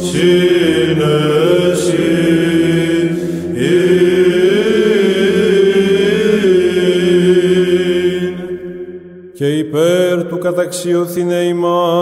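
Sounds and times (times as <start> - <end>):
held vocal drone: 0.0 - 12.0
person chanting melody: 0.0 - 12.0.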